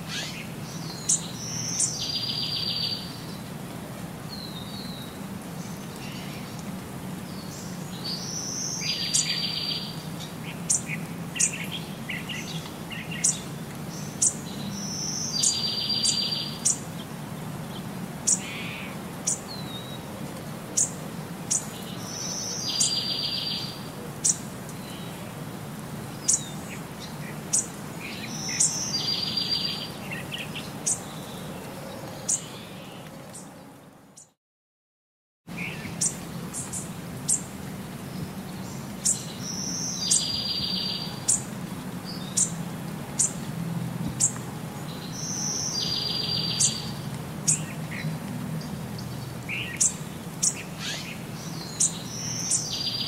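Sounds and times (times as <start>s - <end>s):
songbird singing: 0.0s - 34.4s, 35.5s - 53.0s.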